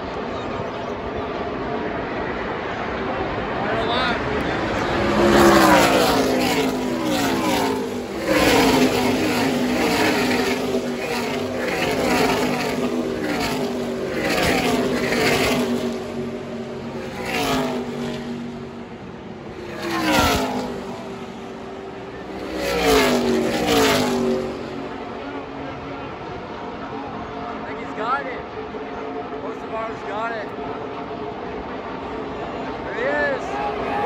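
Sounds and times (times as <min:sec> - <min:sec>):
race truck engines passing: 0:00.0 - 0:34.0.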